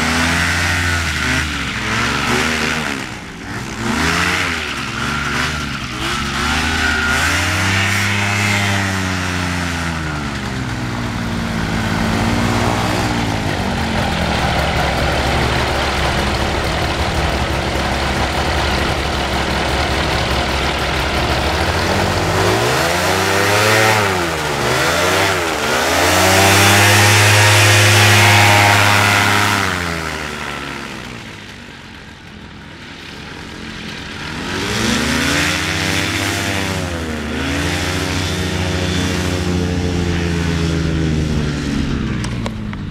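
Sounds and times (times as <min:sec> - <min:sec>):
aircraft engine and propeller: 0:00.0 - 0:42.9.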